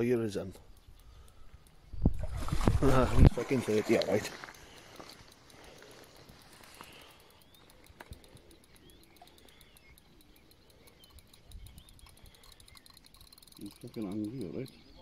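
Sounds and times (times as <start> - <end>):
faint high-pitched ticking: 0.0 - 2.5, 3.3 - 15.0
faint bird chirps: 0.1 - 2.1, 4.6 - 15.0.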